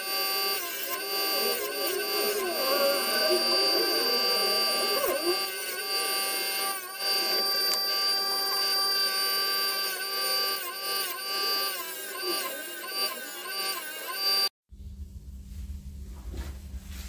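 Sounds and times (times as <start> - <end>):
disc sander motor whine: 0.0 - 14.6.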